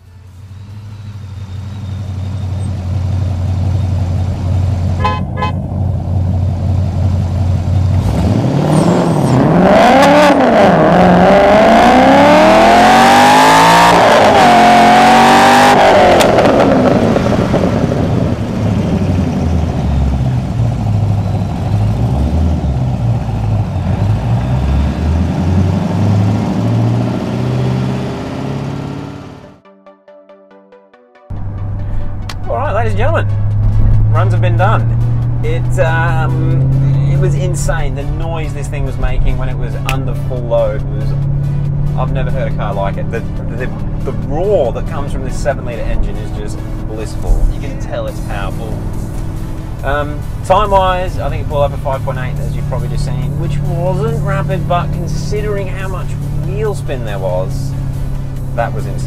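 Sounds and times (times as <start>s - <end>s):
car engine revving: 0.4s - 29.6s, 31.4s - 59.0s.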